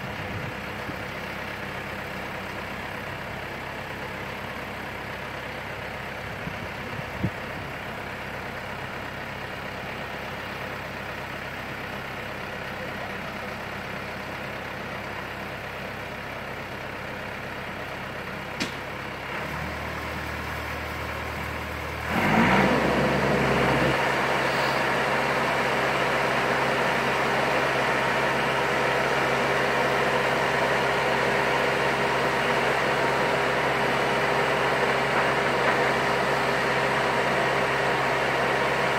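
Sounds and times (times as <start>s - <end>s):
lift engine running: 0.0s - 38.9s.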